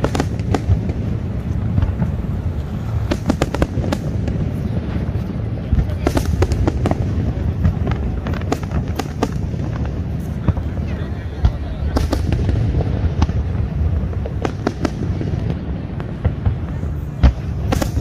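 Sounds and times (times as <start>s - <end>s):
firework cracks and pops: 0.0s - 18.0s
rumble of firework bursts: 0.0s - 18.0s.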